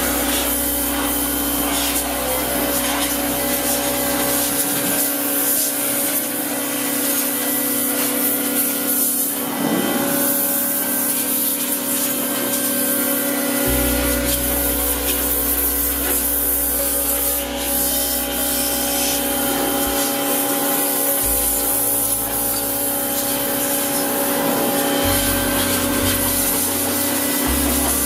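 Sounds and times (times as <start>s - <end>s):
pressure washer spraying: 0.0s - 28.0s.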